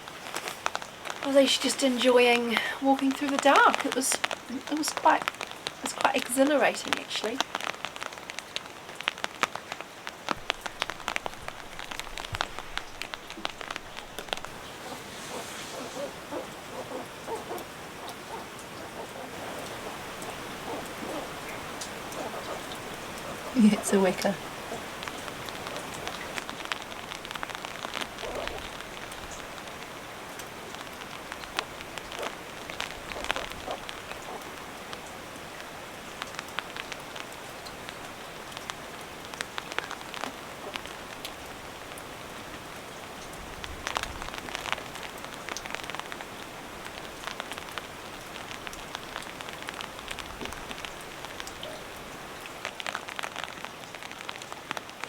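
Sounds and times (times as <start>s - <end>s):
steady rain falling: 0.0s - 55.0s
water drips and taps: 2.3s - 55.0s.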